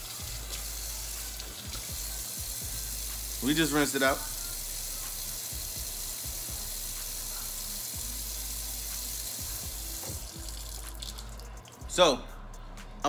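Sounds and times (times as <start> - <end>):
tap water running: 0.0 - 11.6.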